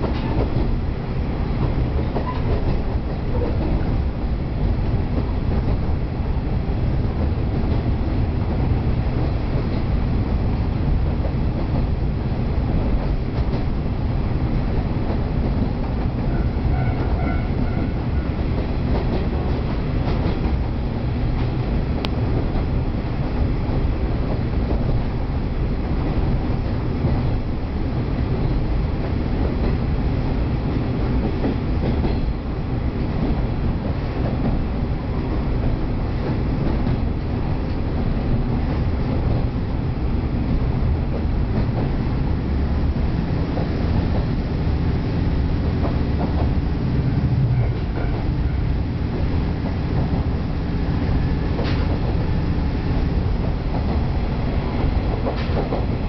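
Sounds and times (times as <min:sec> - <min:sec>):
diesel railcar engine rumble: 0:00.0 - 0:56.0
train wheels on rails: 0:00.0 - 0:56.0.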